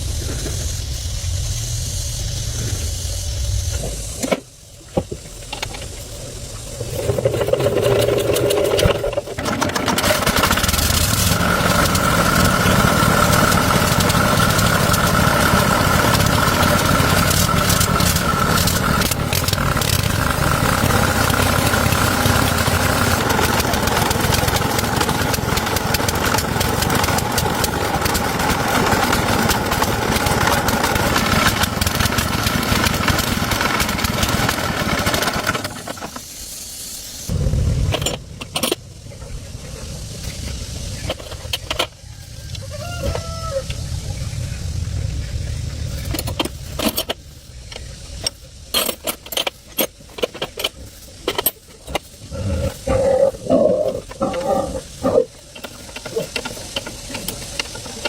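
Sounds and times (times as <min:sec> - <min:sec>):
tractor engine cranking and running: 0:00.0 - 0:58.0.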